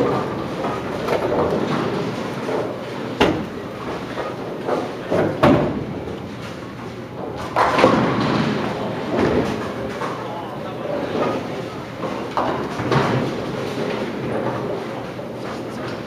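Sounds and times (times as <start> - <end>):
steady hall hum: 0.0 - 16.0.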